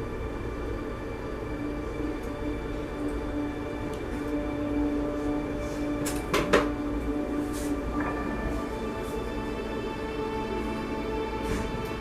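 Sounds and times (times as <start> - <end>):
background music with held tones: 0.0 - 12.0.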